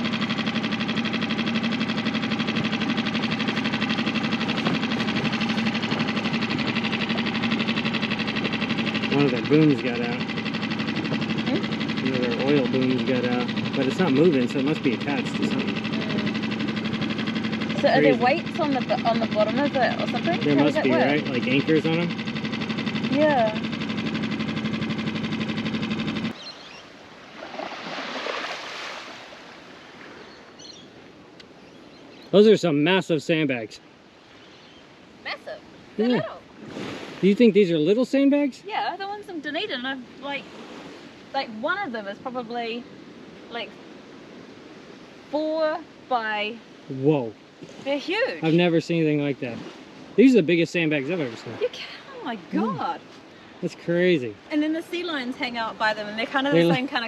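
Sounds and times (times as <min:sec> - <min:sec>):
water sloshing around a boat: 0:00.0 - 0:32.3, 0:33.8 - 0:37.6, 0:38.7 - 0:53.6
outboard motor running: 0:00.0 - 0:57.0.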